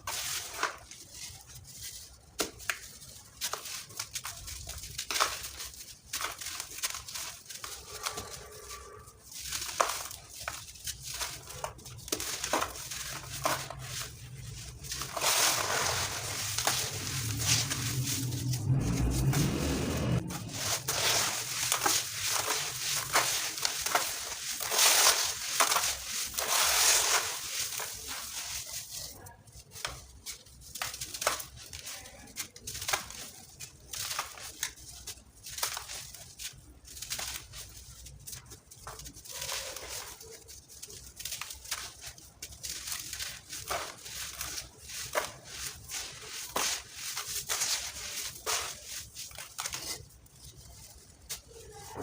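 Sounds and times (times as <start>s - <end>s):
sand-cement chunks being crushed: 0.0s - 52.0s.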